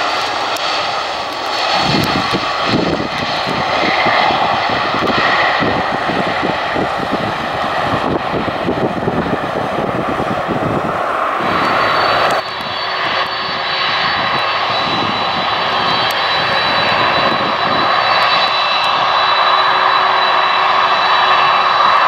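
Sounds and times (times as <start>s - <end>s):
high whine: 0.0s - 22.0s
turbine engines running: 0.0s - 22.0s.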